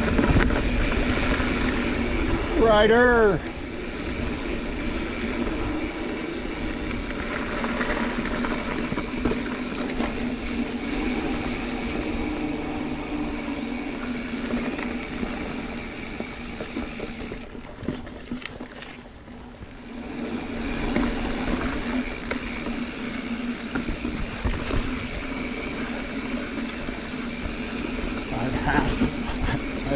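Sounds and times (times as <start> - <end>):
bike rattling: 0.0 - 29.9
bike tyres and wind rumble: 0.0 - 29.9.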